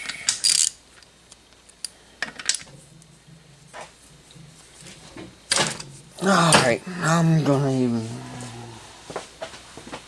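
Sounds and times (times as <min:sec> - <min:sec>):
faint low hum: 0:00.5 - 0:10.0.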